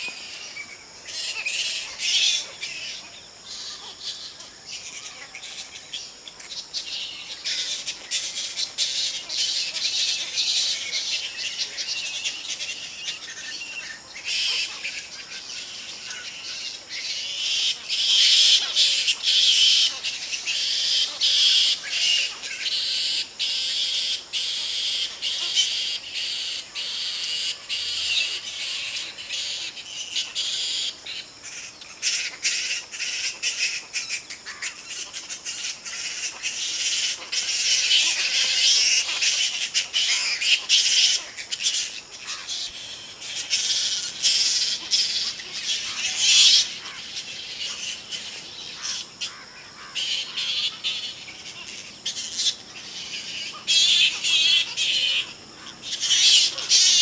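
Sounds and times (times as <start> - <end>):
fruit bats calling: 0.0 - 57.0.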